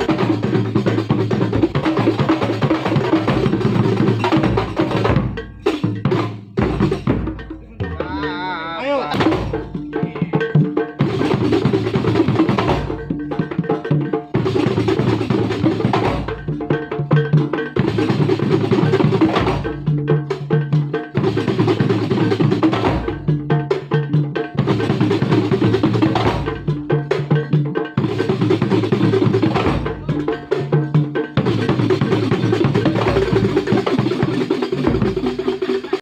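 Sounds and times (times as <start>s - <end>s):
frame drums and bass drum rhythm: 0.0s - 36.0s.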